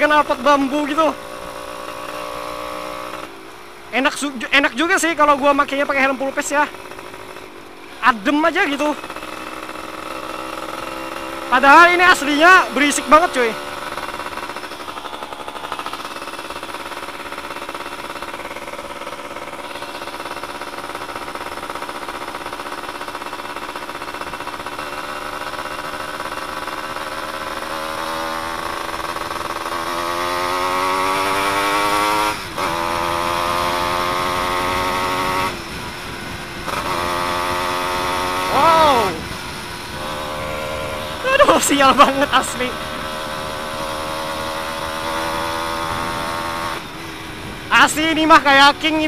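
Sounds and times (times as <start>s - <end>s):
two-stroke motorcycle engine: 0.0s - 49.0s.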